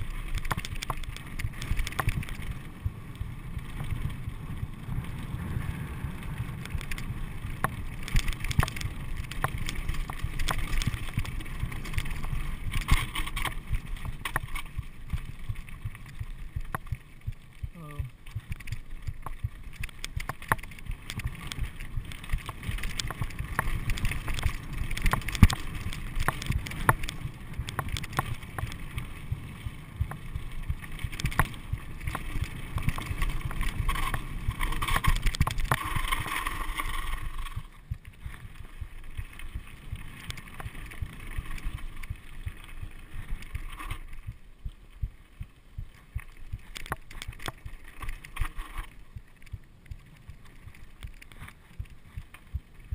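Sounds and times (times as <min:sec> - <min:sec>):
bike frame knocking and rattling: 0:00.0 - 0:05.1, 0:06.6 - 0:17.7, 0:18.3 - 0:44.4
bike tyres rumbling on gravel: 0:00.0 - 0:52.9.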